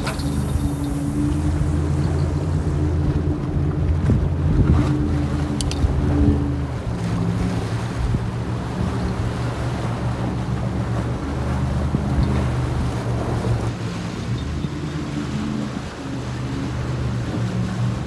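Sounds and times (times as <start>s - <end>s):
low hum: 0.0s - 18.0s
wind buffeting microphone: 0.0s - 18.0s.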